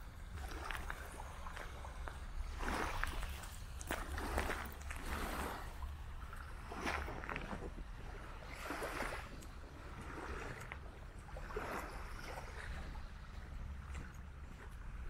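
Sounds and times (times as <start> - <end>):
small waves lapping at shore: 0.0 - 15.0
wind rumble on microphone: 0.0 - 15.0.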